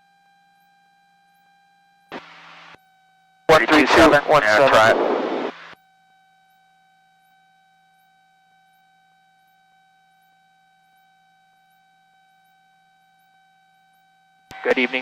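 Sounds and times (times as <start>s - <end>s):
faint electrical whine: 0.0s - 15.0s.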